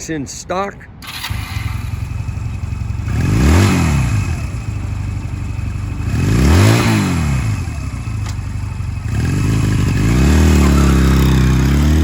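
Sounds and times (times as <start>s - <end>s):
motorcycle engine idling and revving: 1.0s - 12.0s.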